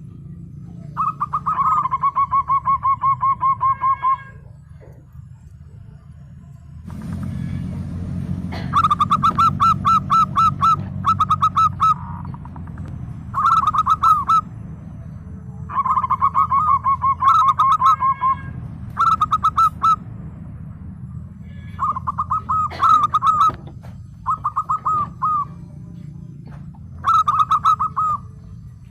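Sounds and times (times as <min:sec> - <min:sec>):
dove cooing trill: 0:00.7 - 0:05.0, 0:07.2 - 0:14.8, 0:15.6 - 0:20.1, 0:21.4 - 0:28.9.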